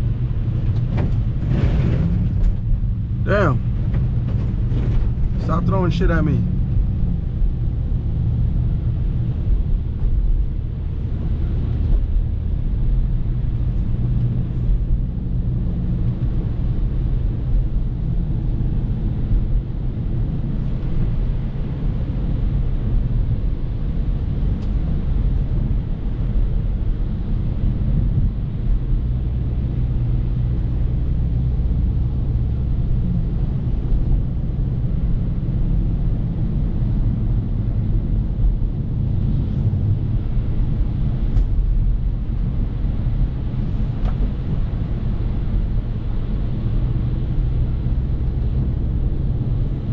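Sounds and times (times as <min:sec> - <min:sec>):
car engine running at low revs: 0:00.0 - 0:49.9.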